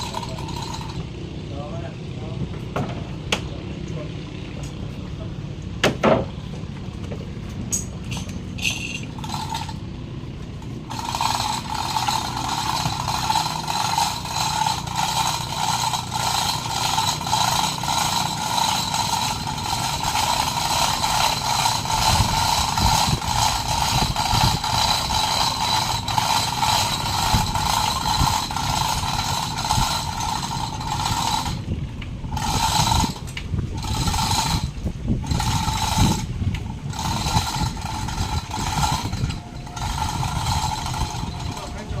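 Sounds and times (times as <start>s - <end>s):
small power tool motor whining: 0.0s - 1.2s, 8.2s - 42.0s.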